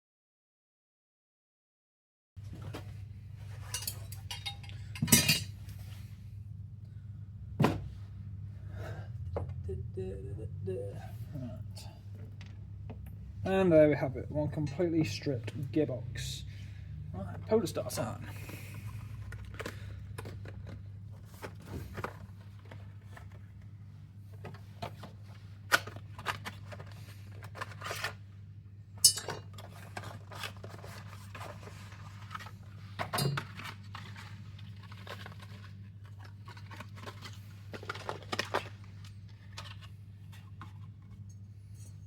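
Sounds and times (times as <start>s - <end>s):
steady low hum: 2.4s - 42.0s.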